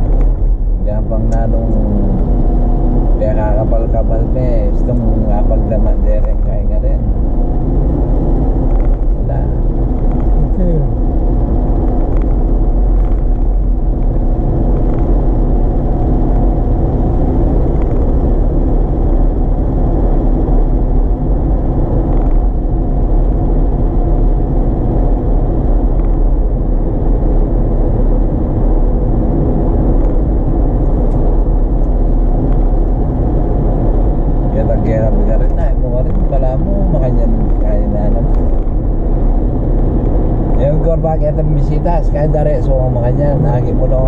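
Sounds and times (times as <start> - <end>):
car engine hum: 0.0 - 44.0
tyre noise on road: 0.0 - 44.0.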